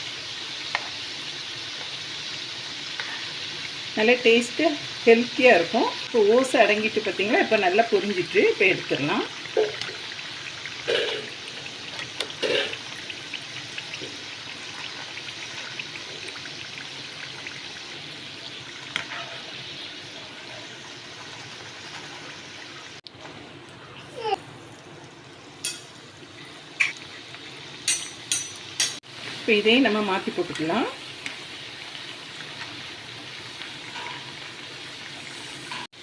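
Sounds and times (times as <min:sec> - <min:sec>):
biscuits sizzling in hot oil: 0:00.0 - 0:36.0.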